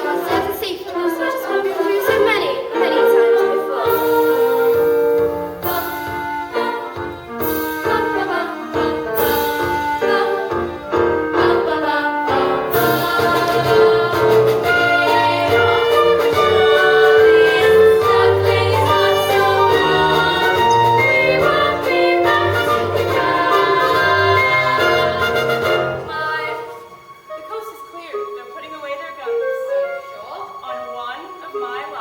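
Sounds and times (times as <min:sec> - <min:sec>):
chorus singing: 0:00.0 - 0:27.1
instrumental accompaniment: 0:00.0 - 0:32.0.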